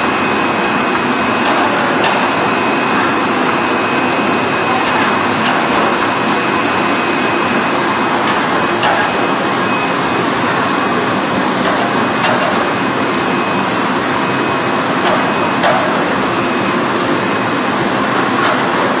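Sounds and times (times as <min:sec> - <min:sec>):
conveyor machine noise: 0:00.0 - 0:19.0.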